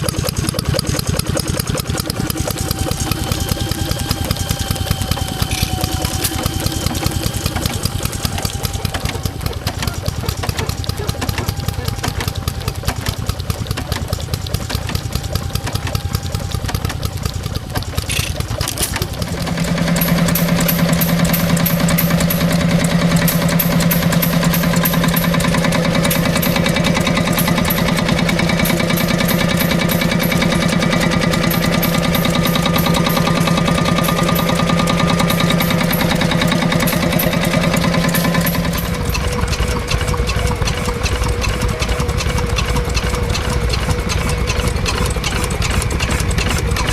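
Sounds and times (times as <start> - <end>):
stationary engine running: 0.0 - 46.9.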